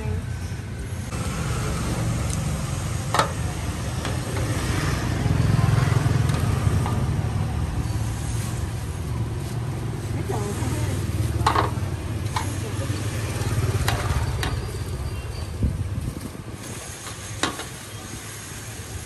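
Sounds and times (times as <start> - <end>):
motorbike engines rumbling: 0.0 - 19.0.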